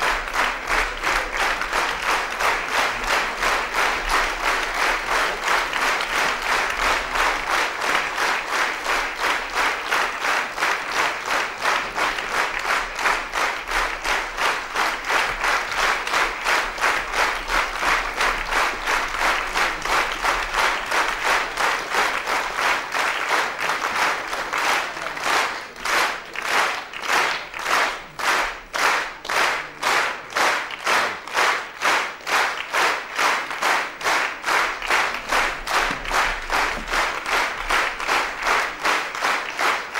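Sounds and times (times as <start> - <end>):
audience clapping in unison: 0.0 - 39.9.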